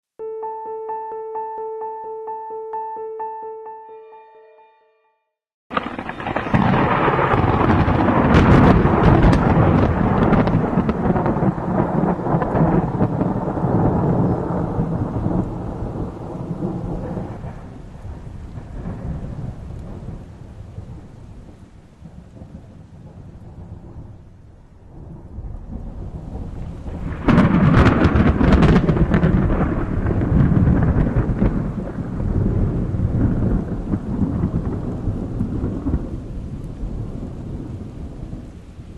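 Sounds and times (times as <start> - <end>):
sharp thunderclap: 5.7 - 24.2, 24.9 - 38.9
thunder rumbling: 5.7 - 38.9.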